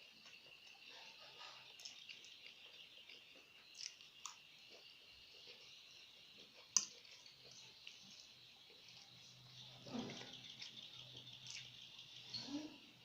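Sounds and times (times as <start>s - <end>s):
chewing food: 0.0s - 12.7s.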